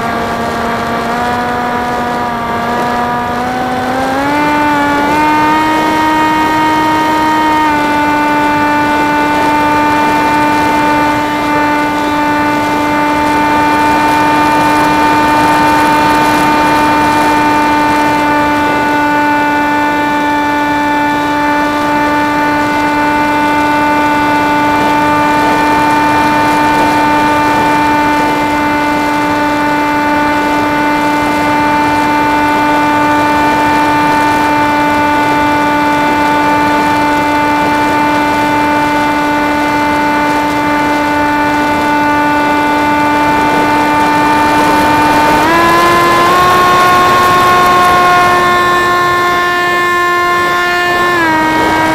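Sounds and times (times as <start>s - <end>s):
electric motor whine: 0.0s - 51.9s.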